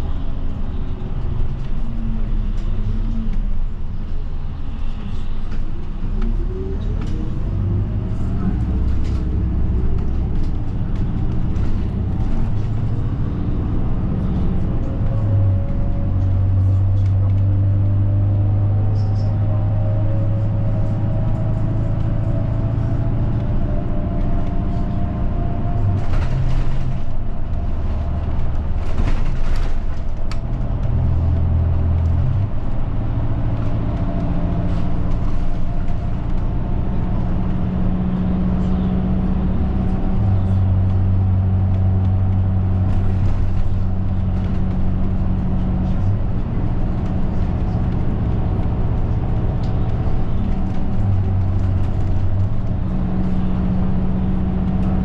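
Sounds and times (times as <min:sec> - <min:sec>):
bus engine low hum: 0:00.0 - 0:55.0.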